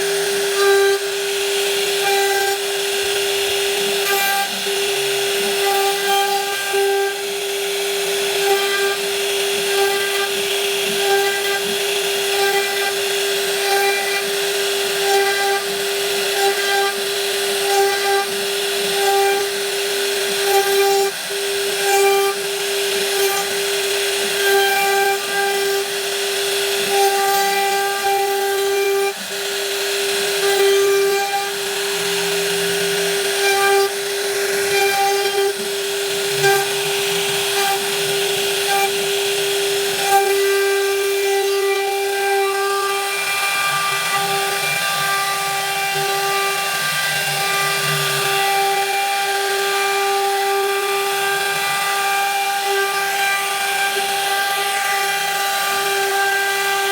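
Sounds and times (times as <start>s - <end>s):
power tool humming: 0.0s - 56.9s.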